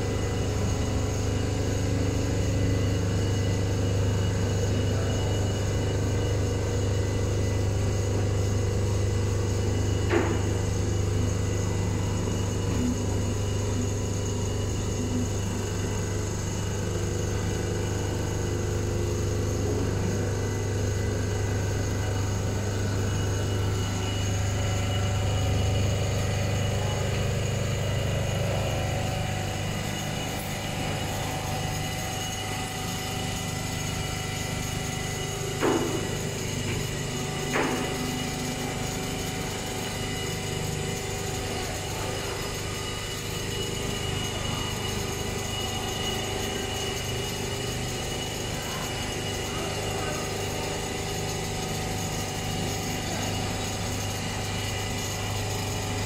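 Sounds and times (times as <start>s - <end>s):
quilting machine humming: 9.5s - 56.0s.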